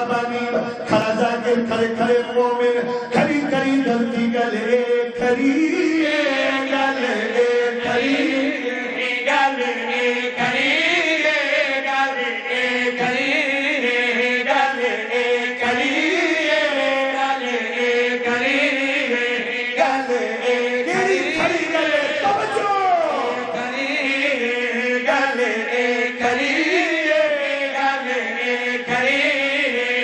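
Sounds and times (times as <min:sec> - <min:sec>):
men chanting into microphones: 0:00.0 - 0:30.0.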